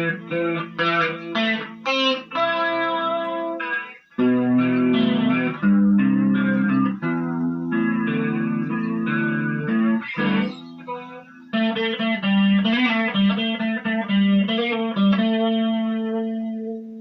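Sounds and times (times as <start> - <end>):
electric guitar with flanger: 0.0 - 17.0.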